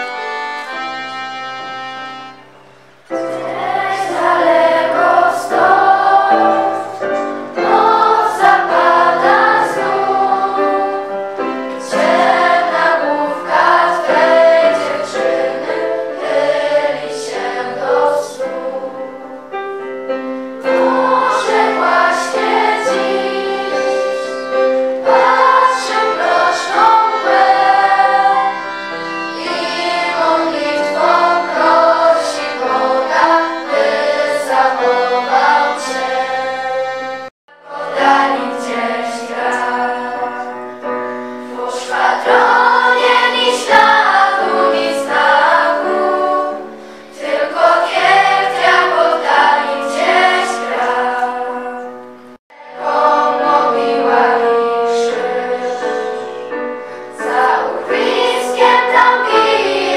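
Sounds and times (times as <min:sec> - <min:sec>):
choir singing long notes: 0:00.0 - 0:59.9.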